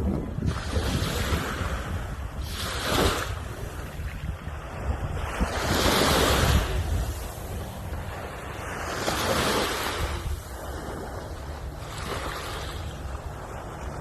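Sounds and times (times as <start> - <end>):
sea waves washing onto shore: 0.0 - 14.0
wind rumbling on microphone: 0.0 - 14.0.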